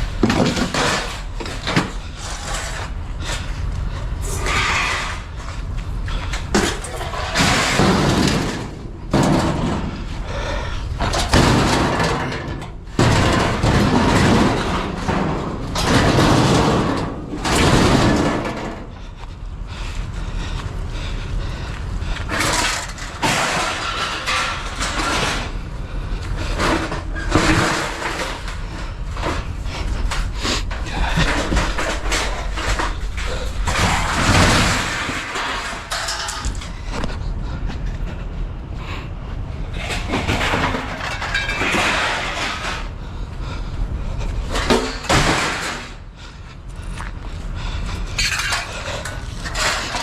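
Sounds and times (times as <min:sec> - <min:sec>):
objects knocking and clattering: 0:00.0 - 0:03.5, 0:04.2 - 0:19.0, 0:22.2 - 0:37.2, 0:39.7 - 0:43.0, 0:44.4 - 0:46.0, 0:48.0 - 0:50.0
steady low rumble: 0:00.0 - 0:50.0.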